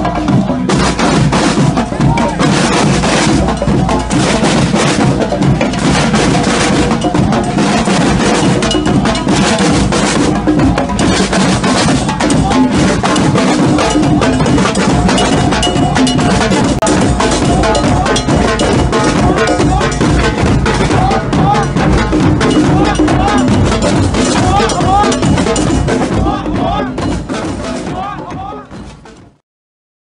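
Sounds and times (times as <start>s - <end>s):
bass drums playing: 0.0s - 29.4s
snare drums playing: 0.0s - 29.4s.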